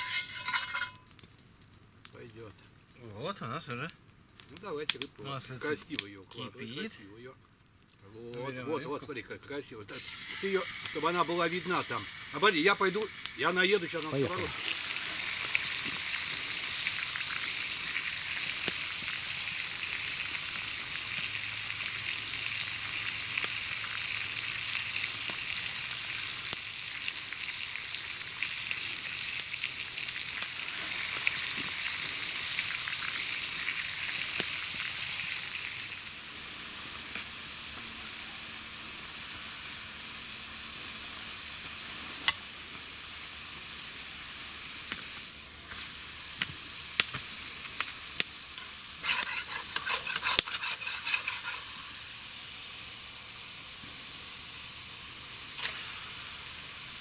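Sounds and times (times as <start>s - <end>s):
fish sizzling in oil: 0.0s - 7.0s, 9.1s - 57.0s.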